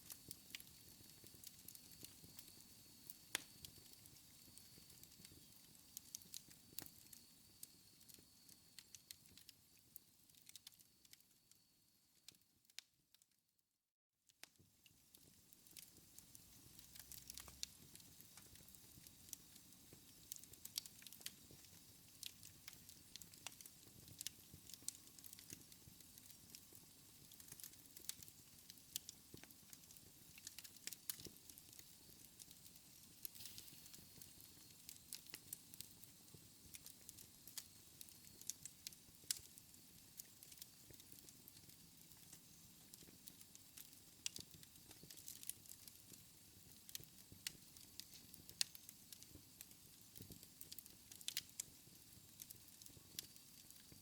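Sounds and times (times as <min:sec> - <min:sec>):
wood fire crackling: 0:00.0 - 0:11.6, 0:12.2 - 0:12.9, 0:14.9 - 0:54.0.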